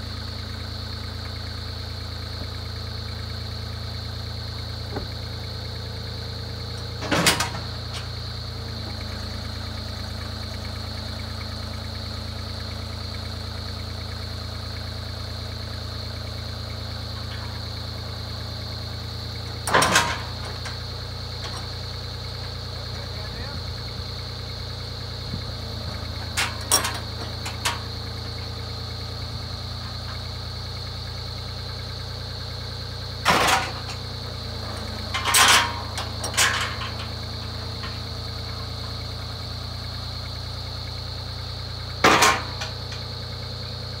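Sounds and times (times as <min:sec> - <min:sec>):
engine running with high whine: 0:00.0 - 0:44.0.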